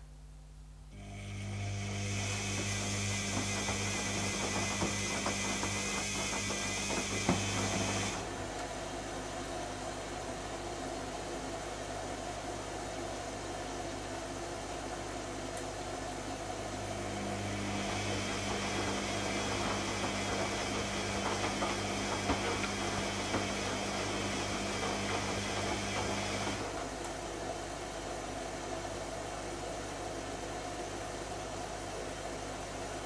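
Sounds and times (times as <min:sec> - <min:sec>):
washing machine running: 0:00.9 - 0:33.0.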